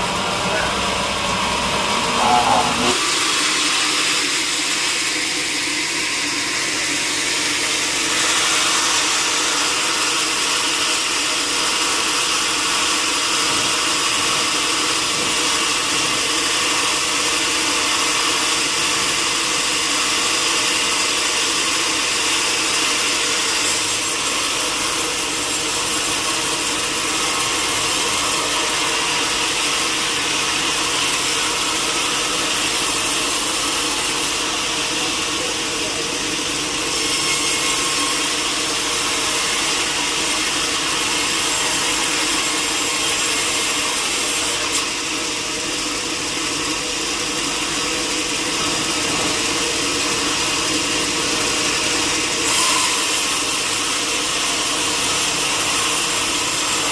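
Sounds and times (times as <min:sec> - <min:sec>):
saw cutting timber: 0:00.0 - 0:56.9.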